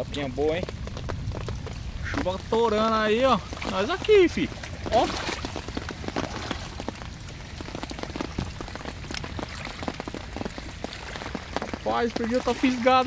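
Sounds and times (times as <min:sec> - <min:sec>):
heavy rain on water and rocks: 0:00.0 - 0:13.0.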